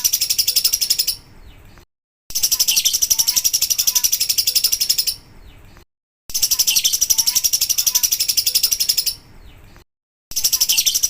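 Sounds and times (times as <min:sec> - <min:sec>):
lovebird chattering trill: 0:00.0 - 0:01.6, 0:02.3 - 0:05.6, 0:06.3 - 0:09.6, 0:10.3 - 0:11.0.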